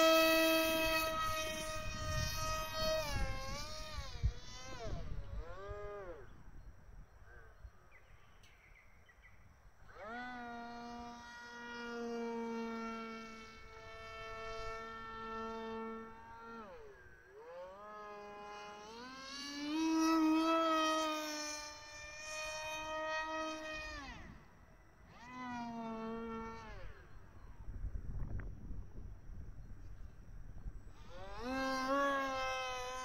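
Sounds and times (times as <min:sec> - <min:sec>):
model jet motor whining: 0:00.0 - 0:07.7, 0:08.4 - 0:33.0.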